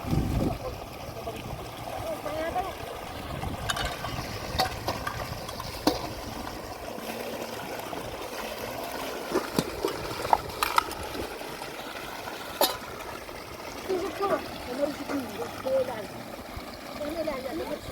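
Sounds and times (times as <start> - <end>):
water trickling: 0.0 - 17.9
light knocks and splashes: 2.5 - 17.8.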